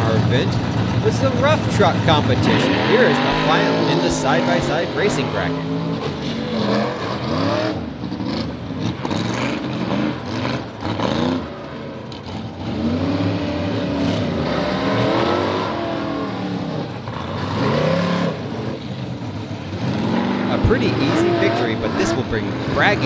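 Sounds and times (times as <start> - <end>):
truck engines revving: 0.0 - 23.0.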